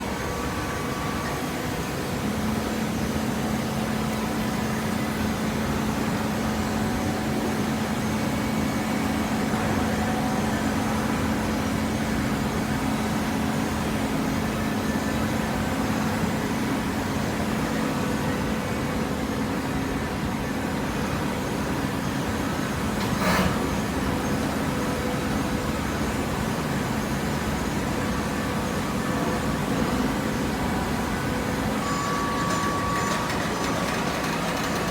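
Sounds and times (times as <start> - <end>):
baler machine humming: 0.0 - 34.9.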